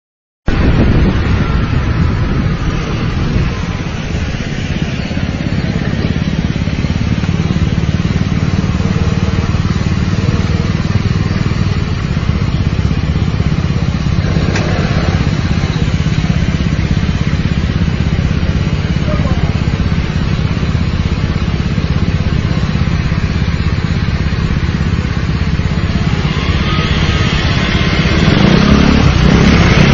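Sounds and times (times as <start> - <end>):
scooter engines idling: 0.7 - 29.9.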